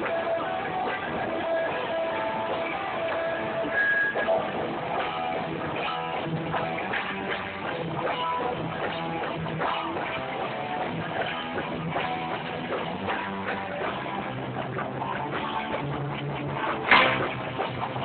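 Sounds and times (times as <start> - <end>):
strummed guitar: 0.0 - 18.0.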